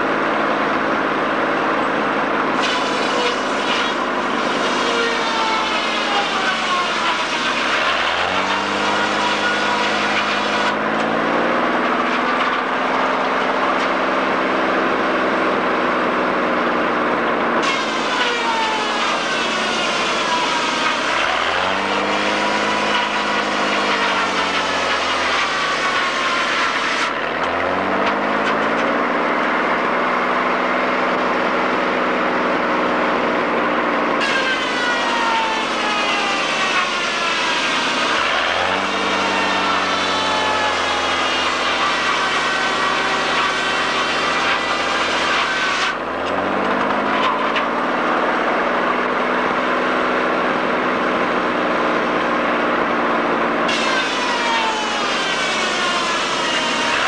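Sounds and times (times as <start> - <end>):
high blade whine: 0.0 - 57.0
sawmill saw cutting logs: 0.0 - 57.0.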